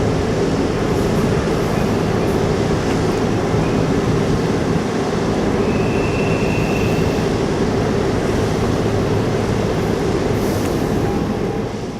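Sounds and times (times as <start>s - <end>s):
ship engines droning: 0.0s - 11.9s.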